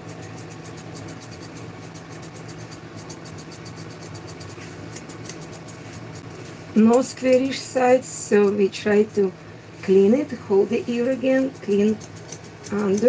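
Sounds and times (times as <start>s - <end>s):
scissors snipping hair: 0.0s - 8.7s, 10.5s - 13.0s
steady low hum: 0.0s - 13.0s.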